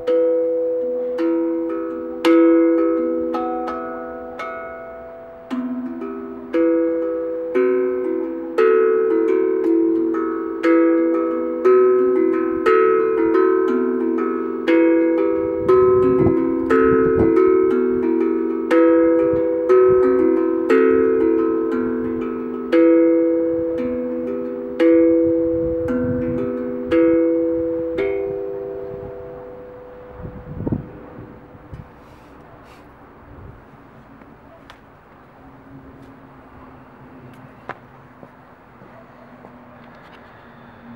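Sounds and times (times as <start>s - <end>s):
steel tongue drum melody: 0.0s - 38.3s.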